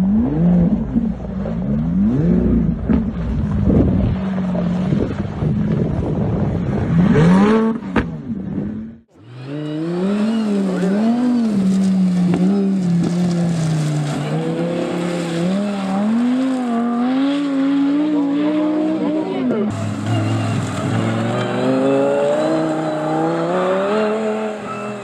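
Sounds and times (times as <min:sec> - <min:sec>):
sports car engine revving: 0:00.0 - 0:24.7.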